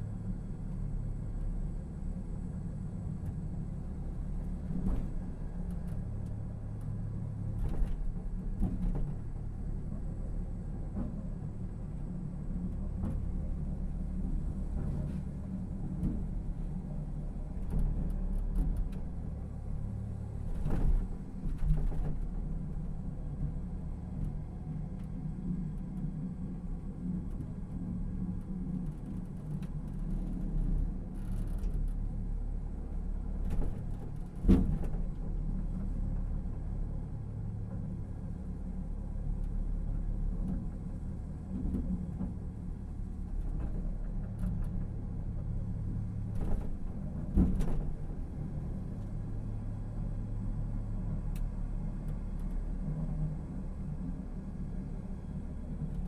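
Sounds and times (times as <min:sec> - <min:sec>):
rail car rumble: 0:00.0 - 0:56.0.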